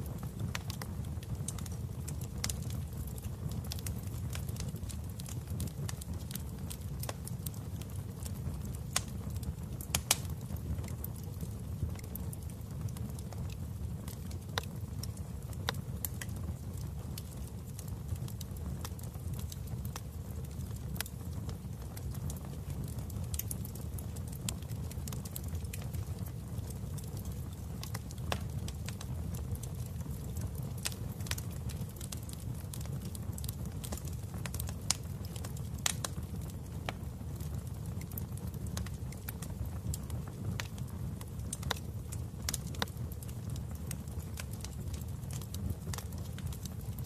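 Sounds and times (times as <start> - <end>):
wood fire crackling and popping: 0.0 - 47.0.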